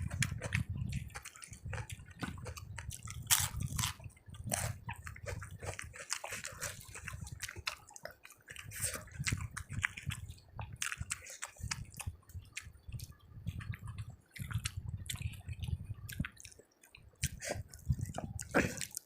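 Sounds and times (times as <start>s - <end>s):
chewing and wet mouth sounds: 0.0s - 19.0s.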